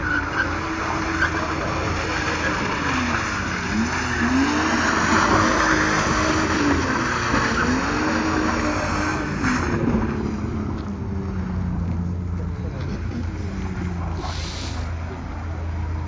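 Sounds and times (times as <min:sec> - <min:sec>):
car engine revving: 0:00.0 - 0:16.0
tyre and road noise: 0:00.0 - 0:16.0.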